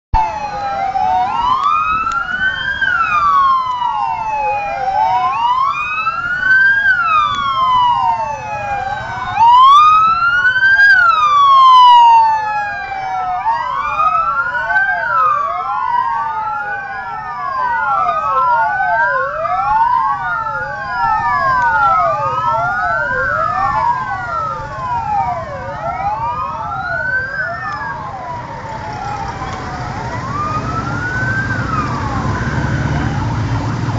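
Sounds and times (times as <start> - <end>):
sirens wailing: 0.1 - 33.9
low traffic rumble: 0.2 - 33.9.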